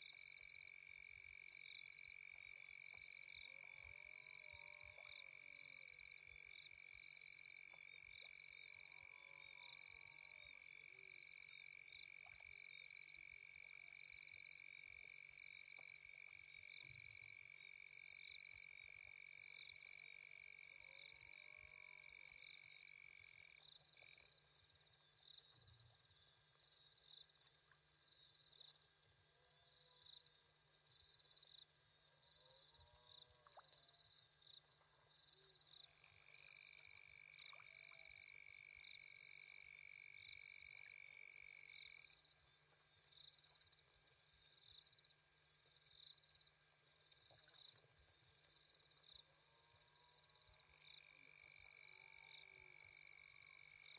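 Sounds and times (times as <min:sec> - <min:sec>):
steady high insect tone: 0:00.1 - 0:53.9.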